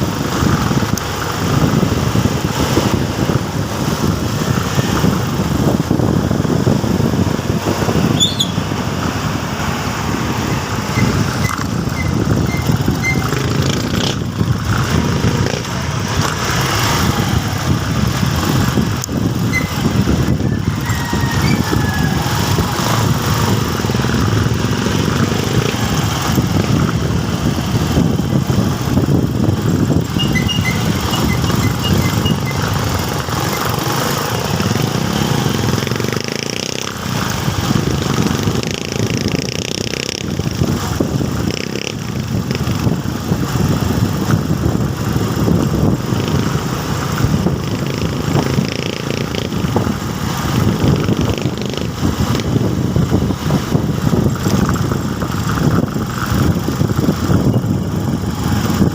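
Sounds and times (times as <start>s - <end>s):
motorcycle engine running: 0.0s - 58.9s
wind noise: 0.0s - 58.9s.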